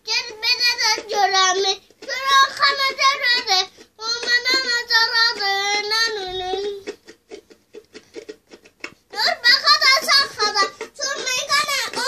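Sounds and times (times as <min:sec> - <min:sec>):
boy singing: 0:00.0 - 0:07.0, 0:09.1 - 0:12.0
toy guitar strumming: 0:00.0 - 0:12.0.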